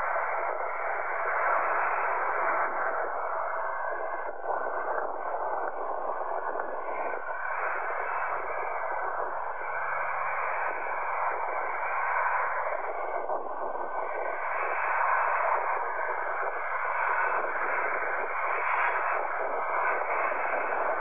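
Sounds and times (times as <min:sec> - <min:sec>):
muffled jet engine roar: 0:00.0 - 0:21.0.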